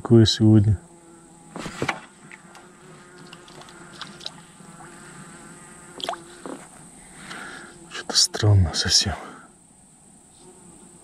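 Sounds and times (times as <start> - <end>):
flying insect buzzing: 0.1 - 11.0.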